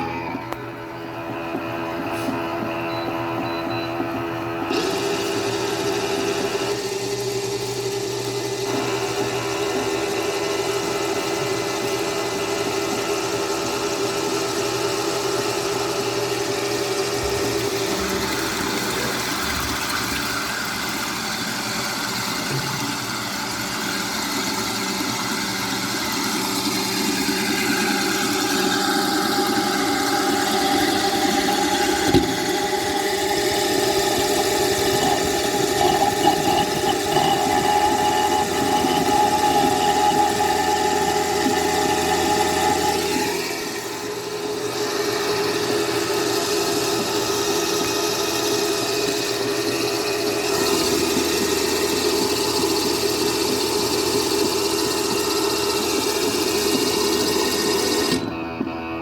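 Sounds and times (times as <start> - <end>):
washing machine motor humming: 0.0 - 59.0.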